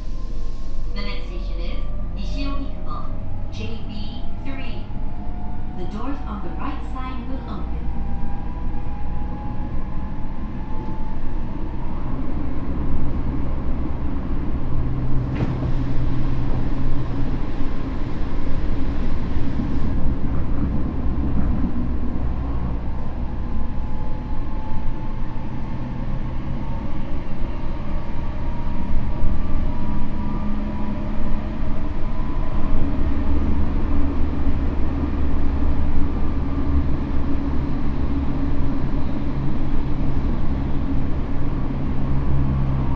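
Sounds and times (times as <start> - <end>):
train wheel and rail rumble: 0.0 - 42.9.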